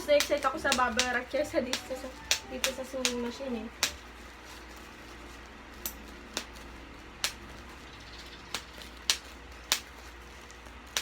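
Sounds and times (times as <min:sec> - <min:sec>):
bubble wrap popping: 0:00.0 - 0:11.0.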